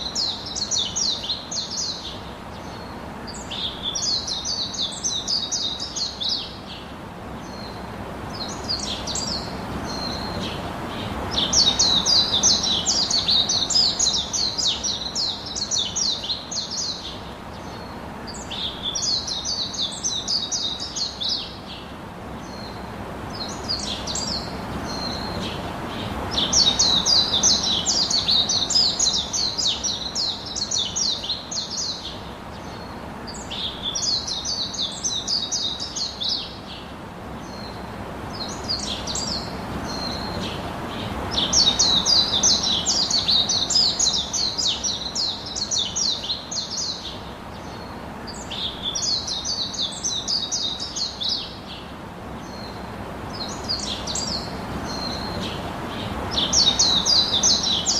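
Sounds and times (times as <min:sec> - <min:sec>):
background hiss: 0:00.0 - 0:57.9
birds chirping rapidly: 0:00.0 - 0:57.9.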